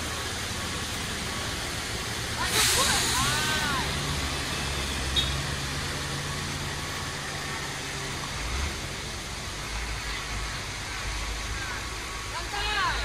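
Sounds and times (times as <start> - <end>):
road hiss: 0.0 - 13.0
truck diesel engine rumbling: 0.0 - 13.0.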